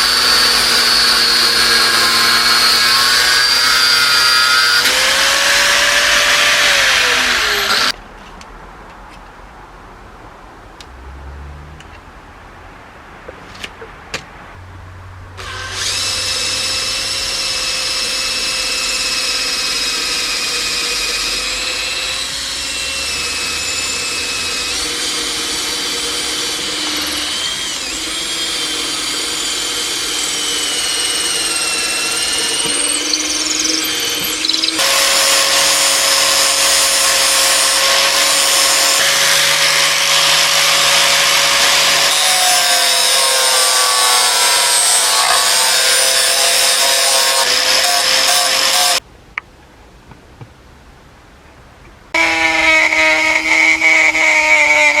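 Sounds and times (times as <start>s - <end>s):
grinder motor whining: 0.0s - 8.0s, 15.4s - 49.0s, 52.2s - 55.0s.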